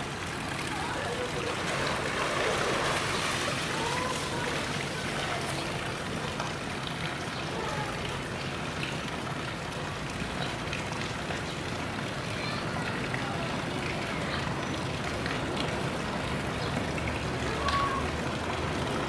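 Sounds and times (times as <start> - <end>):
running water rushing: 0.0 - 19.0
water splashing: 0.0 - 19.0.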